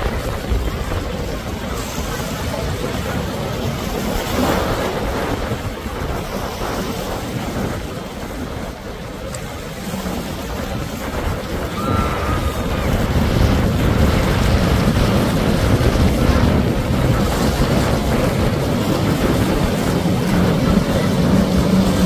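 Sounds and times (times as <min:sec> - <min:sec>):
boat engine rumble: 0:00.0 - 0:22.0
rushing boat wake: 0:00.0 - 0:22.0
wind buffeting microphone: 0:00.0 - 0:22.0.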